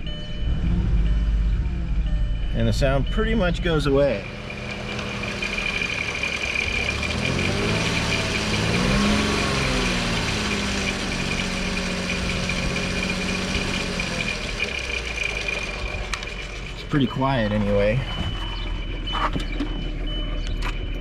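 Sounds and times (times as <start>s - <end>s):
steady high whine: 0.0s - 20.8s
car engine revving: 0.0s - 20.9s.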